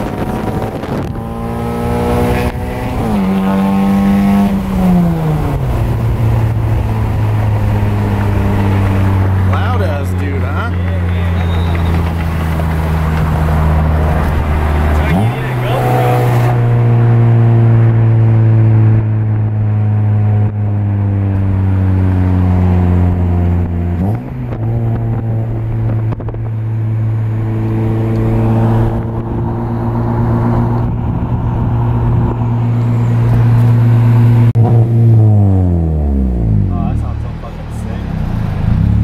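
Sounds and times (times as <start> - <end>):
deep exhaust drone: 0.0 - 39.0.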